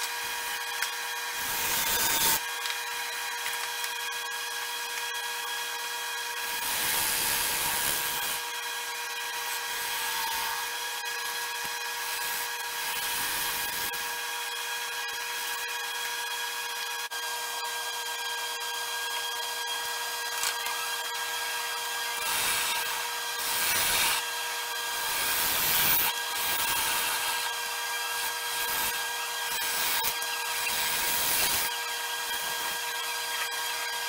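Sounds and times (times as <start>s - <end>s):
wood lathe whining: 0.0s - 17.3s, 18.2s - 34.0s.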